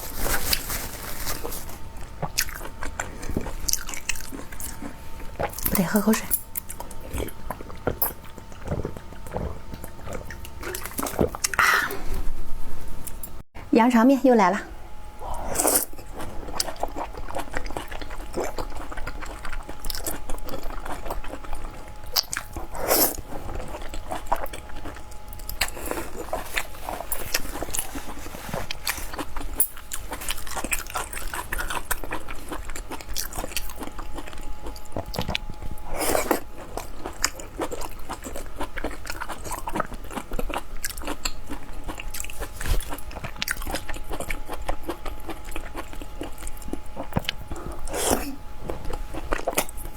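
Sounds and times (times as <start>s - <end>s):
chewing and biting noodles: 1.4s - 5.7s, 6.6s - 11.7s, 15.4s - 49.9s.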